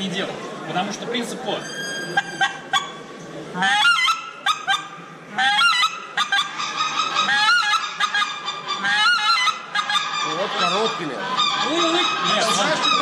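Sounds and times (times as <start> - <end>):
goose call honks and clucks: 1.7 - 3.0, 3.6 - 13.0.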